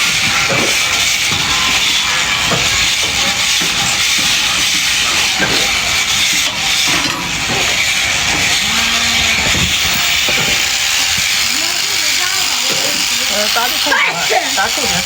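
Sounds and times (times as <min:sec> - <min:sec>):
electric shears buzzing: 0:00.0 - 0:15.0.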